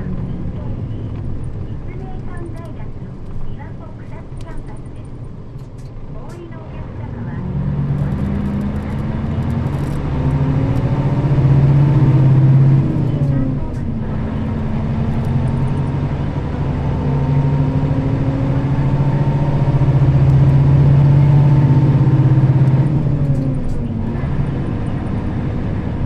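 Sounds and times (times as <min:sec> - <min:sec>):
bus diesel engine from inside: 0:00.0 - 0:26.0.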